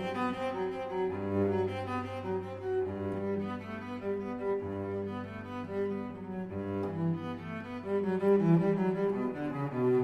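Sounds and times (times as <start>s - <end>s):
bowed string music: 0.0s - 10.0s.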